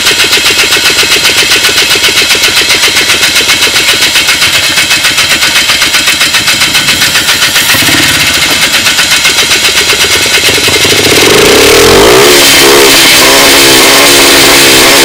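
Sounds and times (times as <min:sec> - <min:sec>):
quad engine misfiring: 0:00.0 - 0:15.0.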